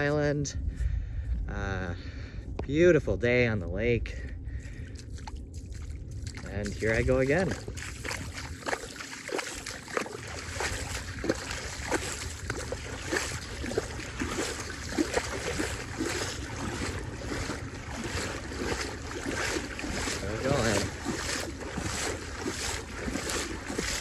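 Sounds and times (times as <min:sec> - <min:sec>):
steady low rumble: 0:00.0 - 0:24.0
footsteps wading through water: 0:04.2 - 0:24.0.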